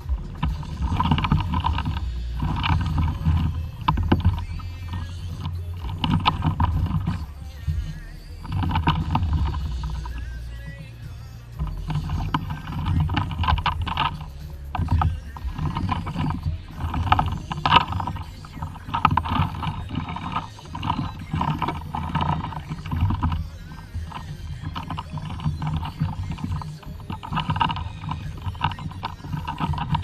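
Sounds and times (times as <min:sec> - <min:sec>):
water splashing against kayak hull: 0:00.0 - 0:30.0.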